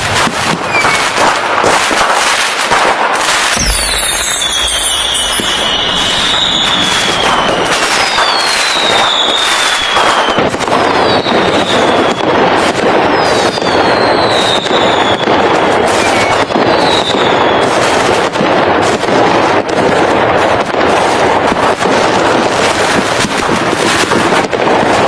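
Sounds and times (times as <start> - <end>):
fireworks crackling and banging: 0.0 - 25.0
whistling fireworks: 0.0 - 25.0.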